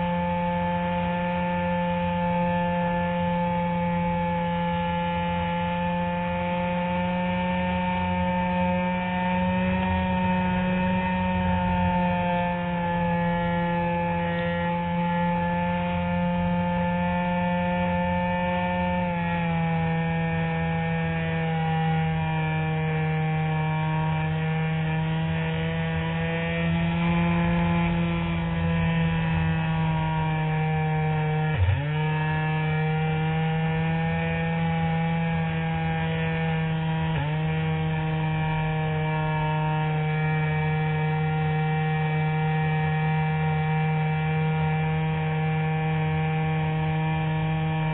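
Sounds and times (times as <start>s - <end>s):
electric motor and propeller whining: 0.0s - 47.9s.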